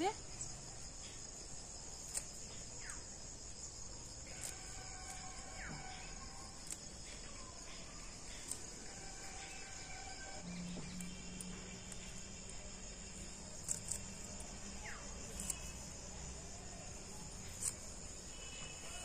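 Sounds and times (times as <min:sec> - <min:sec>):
crickets and insects chirring: 0:00.0 - 0:19.0.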